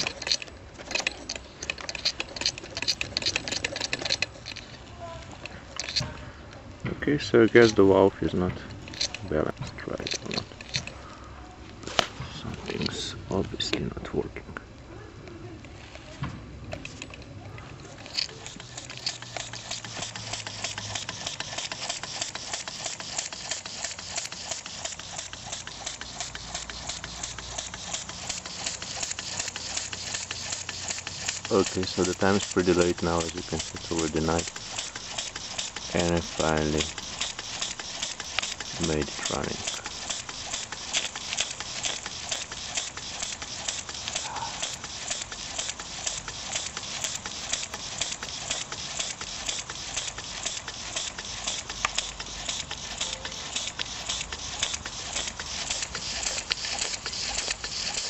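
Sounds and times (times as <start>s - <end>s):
model steam engine beating: 0.0s - 6.2s, 7.0s - 11.1s, 17.9s - 58.0s.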